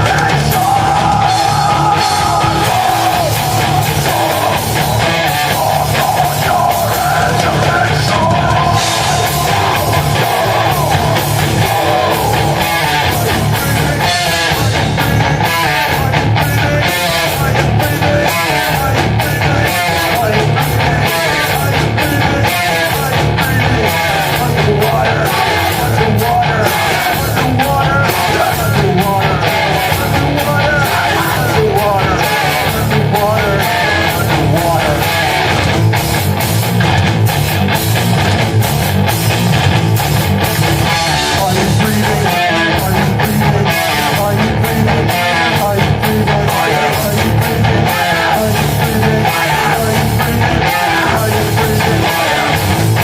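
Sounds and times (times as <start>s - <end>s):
sung and shouted vocals: 0.0s - 35.7s, 40.8s - 53.0s
heavy rock band playing: 0.0s - 53.0s.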